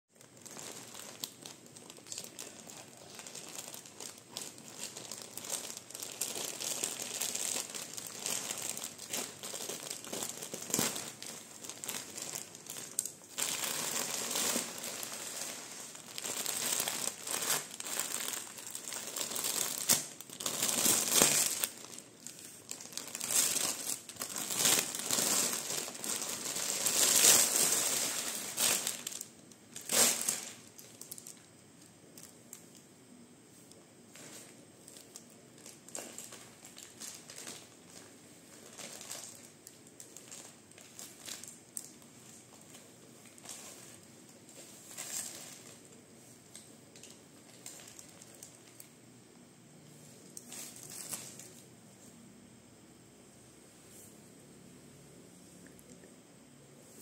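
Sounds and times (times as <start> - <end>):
plastic bag crinkling and rustling: 0.1 - 32.9, 33.7 - 49.0, 50.2 - 51.7.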